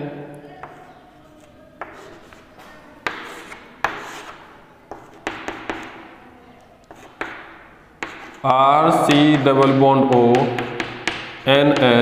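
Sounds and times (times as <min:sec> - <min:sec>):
chalk scratching on chalkboard: 0:00.6 - 0:06.2, 0:06.8 - 0:12.0
chalk tapping on chalkboard: 0:00.6 - 0:06.2, 0:06.9 - 0:12.0.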